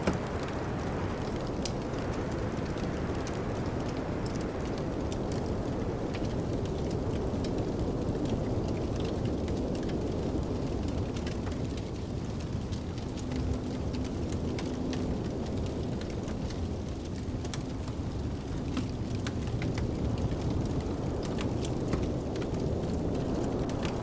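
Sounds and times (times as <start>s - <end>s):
low rumble of wind: 0.0s - 24.0s
wood fire crackling and popping: 0.0s - 24.0s.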